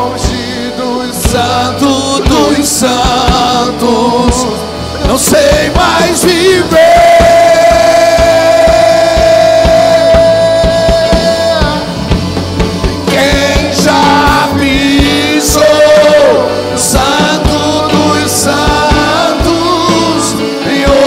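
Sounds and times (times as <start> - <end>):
person singing: 0.0 - 12.2, 13.0 - 21.0
band playing worship song: 0.0 - 21.0
steady drum beat: 0.0 - 21.0.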